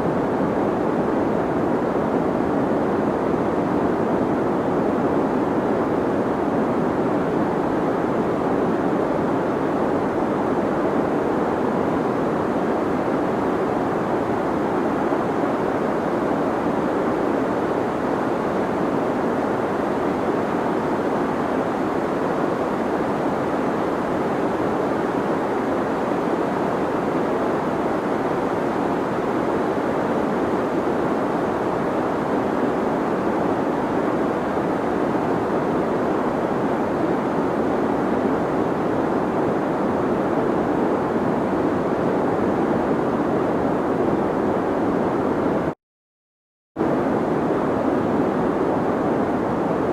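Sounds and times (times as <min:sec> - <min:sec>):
deep white noise: 0:00.0 - 0:45.7.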